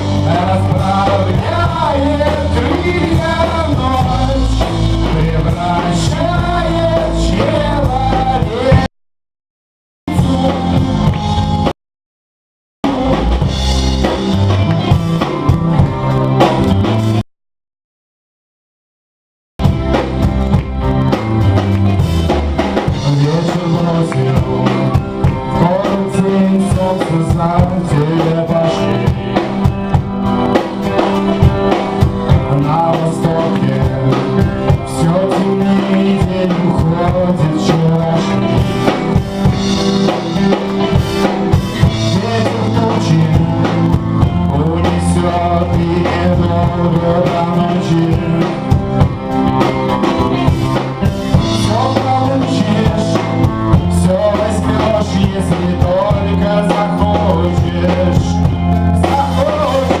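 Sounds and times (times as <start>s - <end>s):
bass guitar: 0.0s - 8.9s, 10.1s - 11.8s, 12.8s - 17.2s, 19.6s - 60.0s
drum kit beat: 0.0s - 8.9s, 10.1s - 11.8s, 12.8s - 17.2s, 19.6s - 60.0s
live rock band playing: 0.0s - 8.9s, 10.1s - 11.8s, 12.8s - 17.2s, 19.6s - 60.0s.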